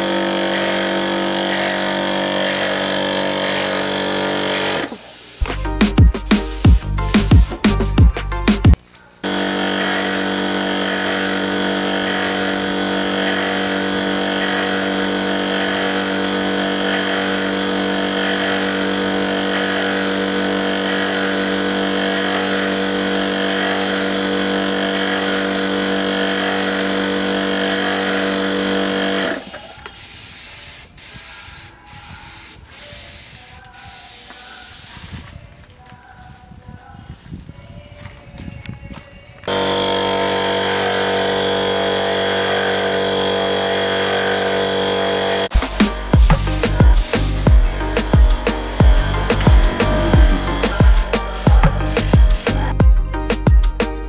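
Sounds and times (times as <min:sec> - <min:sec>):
spray gun hissing: 0:00.0 - 0:08.0, 0:09.3 - 0:35.3, 0:39.5 - 0:54.0
air compressor humming: 0:00.0 - 0:29.6, 0:39.5 - 0:54.0.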